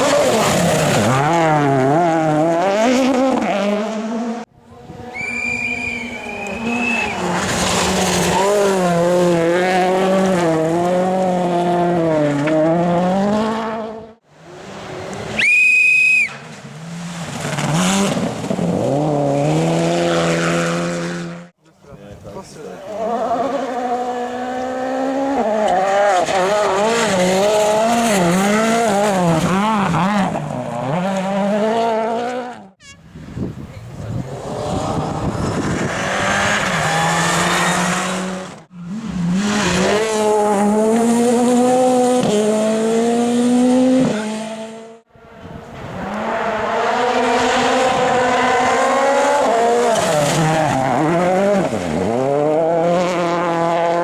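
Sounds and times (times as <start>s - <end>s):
rally car engines revving: 0.0s - 15.4s, 16.2s - 21.6s, 22.2s - 54.0s.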